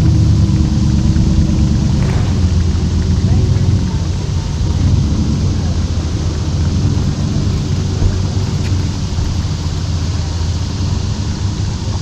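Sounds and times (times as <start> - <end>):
motorboat rumble and hiss: 0.0 - 12.0
wind on microphone: 0.0 - 12.0.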